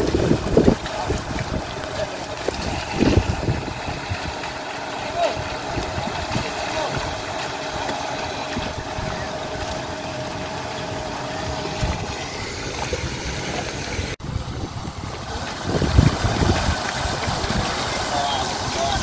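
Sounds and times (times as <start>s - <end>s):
engine running steadily: 0.0s - 19.0s
low rumbling gusts: 0.0s - 19.0s.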